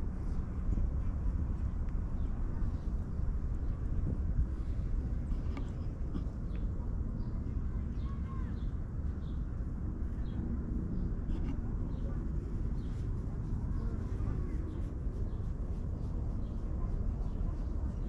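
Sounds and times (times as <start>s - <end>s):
small birds chirping: 1.5s - 9.5s, 10.1s - 18.0s.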